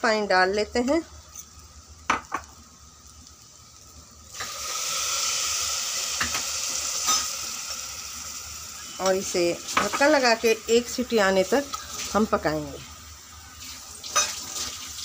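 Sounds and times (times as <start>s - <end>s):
water sizzling on hot metal: 0.0s - 15.0s.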